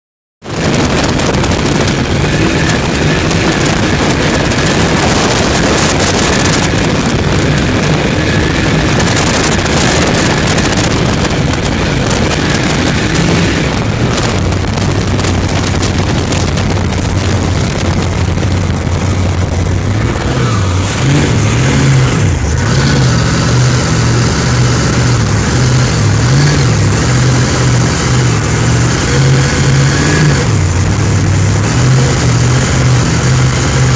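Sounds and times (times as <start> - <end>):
boat engine running hard: 0.4 - 33.9
rushing wake and spray: 0.5 - 30.8.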